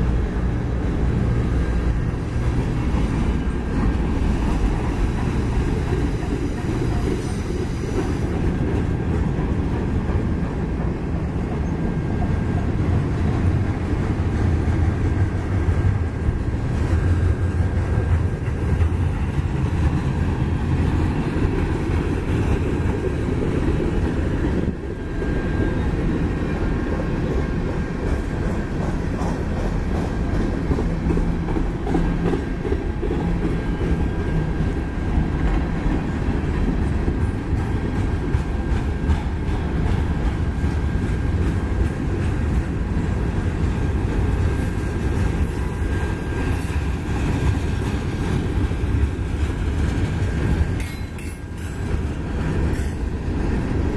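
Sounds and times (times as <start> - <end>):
freight train cars rolling on rails: 0.0 - 53.9.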